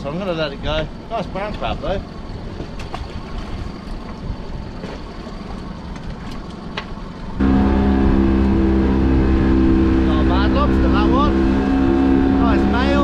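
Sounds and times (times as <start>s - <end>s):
wind: 0.0s - 13.0s
boat engine running: 0.1s - 13.0s
water noise: 0.6s - 13.0s.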